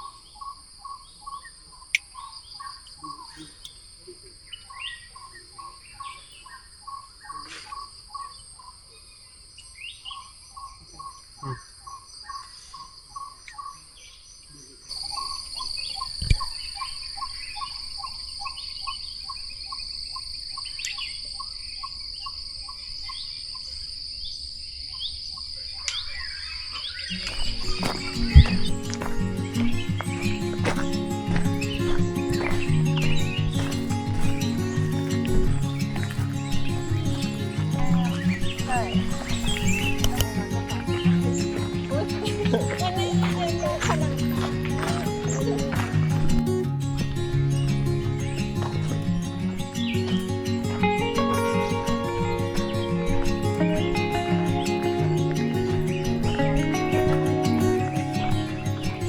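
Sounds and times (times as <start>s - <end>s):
bird chirps: 0.0s - 59.0s.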